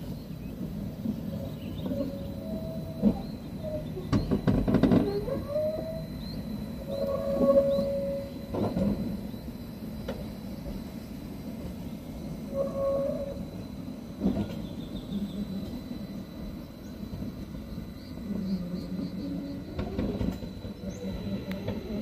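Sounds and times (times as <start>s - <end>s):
tram rolling on rails: 0.0s - 22.0s
wheel-on-rail squeals: 1.2s - 10.8s, 11.6s - 22.0s.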